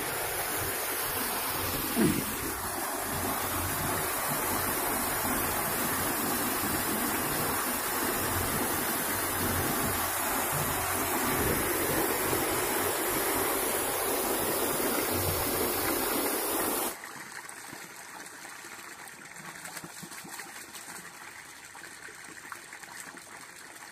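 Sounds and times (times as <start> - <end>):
water gushing into pit: 0.0 - 23.9
water pouring from pipe: 0.0 - 23.9.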